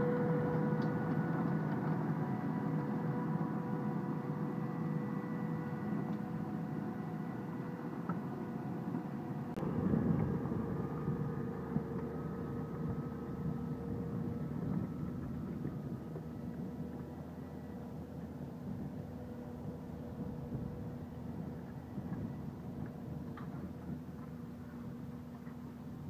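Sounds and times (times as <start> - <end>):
tractor engine with whine: 0.0 - 26.0
tractor pulling plough: 0.0 - 26.0.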